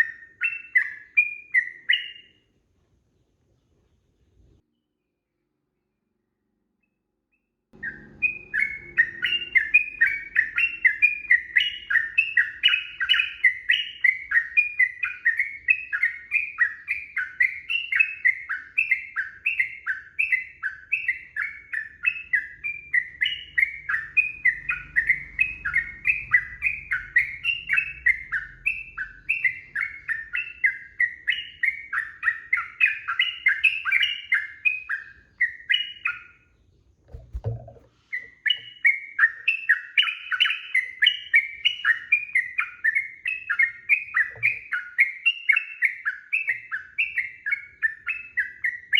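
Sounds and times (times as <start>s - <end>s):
bird chirping song: 0.0s - 48.9s.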